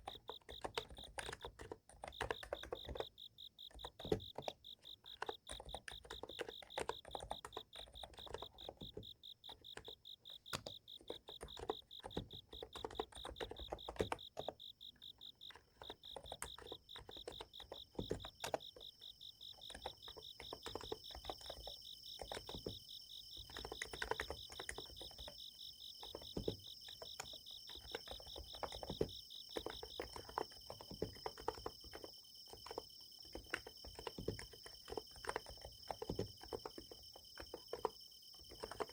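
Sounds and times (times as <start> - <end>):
insects chirping: 0.0 - 38.9
soft keyboard keystrokes: 0.0 - 38.9.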